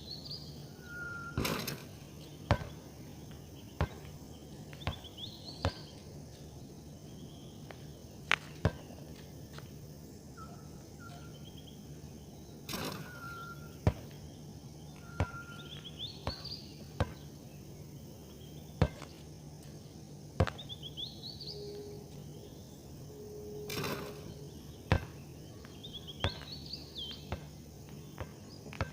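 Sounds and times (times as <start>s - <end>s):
small birds chirping and trilling: 0.0s - 9.2s, 10.4s - 19.2s, 20.4s - 22.9s, 23.7s - 28.9s
steady low hum: 0.0s - 28.9s.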